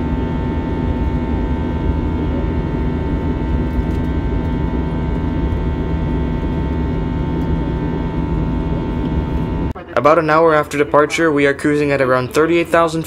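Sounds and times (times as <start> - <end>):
airliner cabin engine roar: 0.0 - 13.0
constant humming tones: 0.0 - 13.0.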